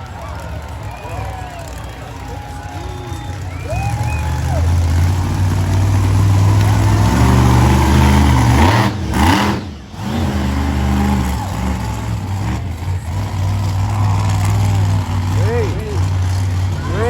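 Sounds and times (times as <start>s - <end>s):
monster truck engine droning: 0.0s - 17.0s.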